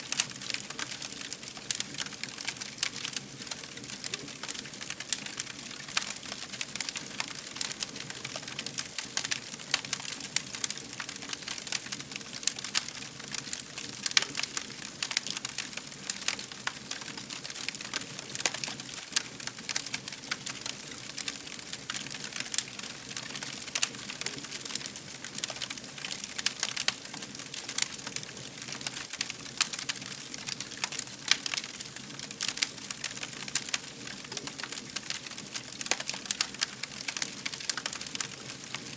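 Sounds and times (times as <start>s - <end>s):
soft steady hiss: 0.0s - 38.9s
wood fire crackling and popping: 0.0s - 38.9s.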